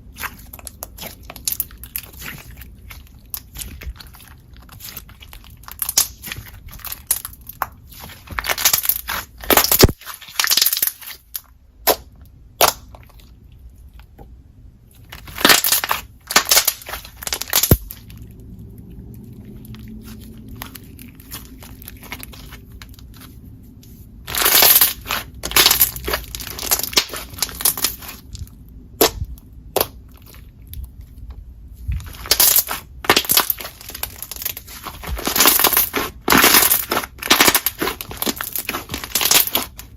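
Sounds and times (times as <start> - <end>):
slime crackling and popping: 0.0 - 13.2, 15.1 - 18.2, 19.5 - 23.3, 24.3 - 30.8, 31.8 - 39.9.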